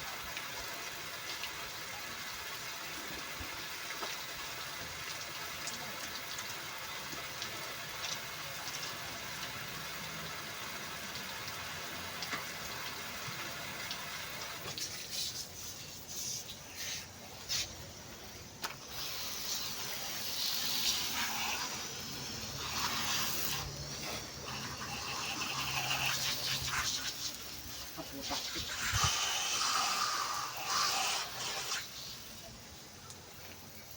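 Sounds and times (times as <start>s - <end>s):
water spraying and splashing: 0.0s - 33.9s.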